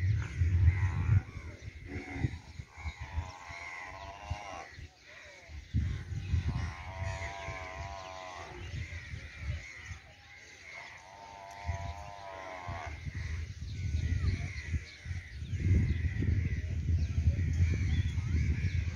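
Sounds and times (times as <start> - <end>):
small birds chirping: 0.0 - 18.9
wind rumble on microphone: 0.0 - 18.9.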